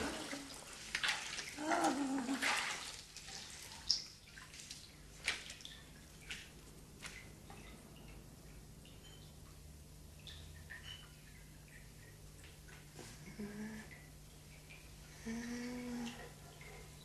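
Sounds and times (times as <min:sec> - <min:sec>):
water splashing and dripping: 0:00.0 - 0:13.2, 0:13.9 - 0:15.1.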